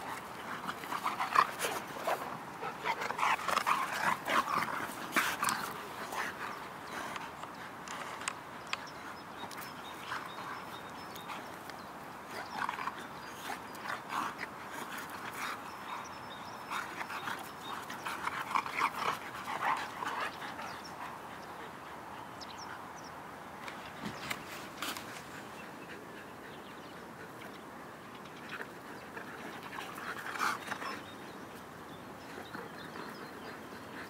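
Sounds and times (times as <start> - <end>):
dogs making play noises: 0.0 - 34.0.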